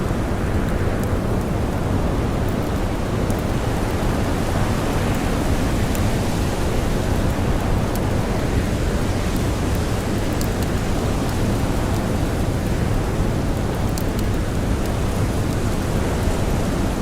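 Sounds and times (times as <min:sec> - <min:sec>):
campfire crackles: 0:00.0 - 0:17.0.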